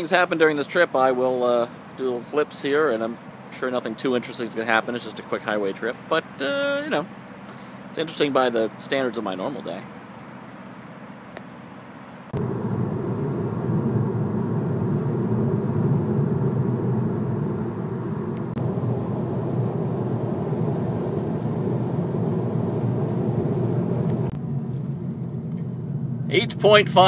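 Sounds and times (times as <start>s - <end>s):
car cabin road and engine noise: 0.0s - 27.0s.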